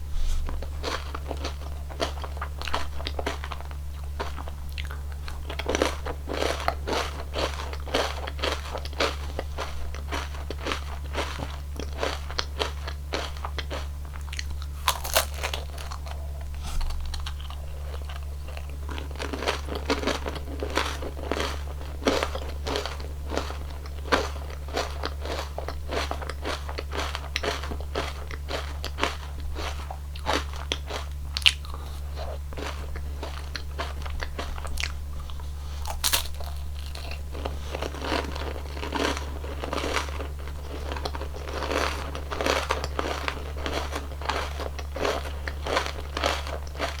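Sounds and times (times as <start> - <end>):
steady low hum: 0.0 - 47.0
wet chewing: 0.3 - 47.0
crunching ice cream cone: 0.4 - 47.0.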